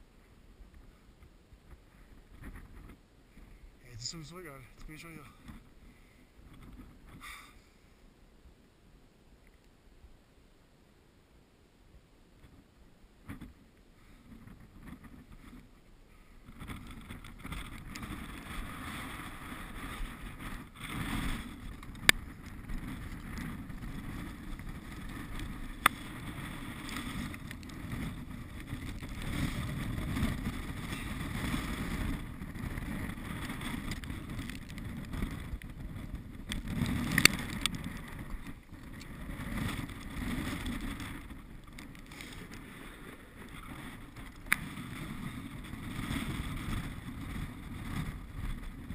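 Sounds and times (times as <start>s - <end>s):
wind rumbling on microphone: 0.0s - 7.8s, 12.4s - 48.9s.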